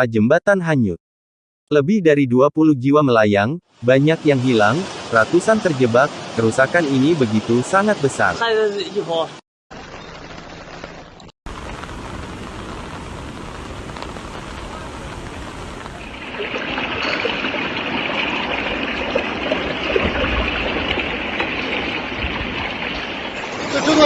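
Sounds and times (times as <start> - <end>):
rushing water: 3.7 - 24.0.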